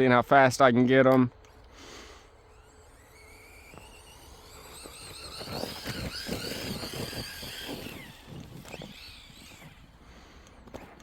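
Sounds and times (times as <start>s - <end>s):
rc truck motor whining: 1.4s - 11.0s
tyres churning through snow: 1.8s - 11.0s.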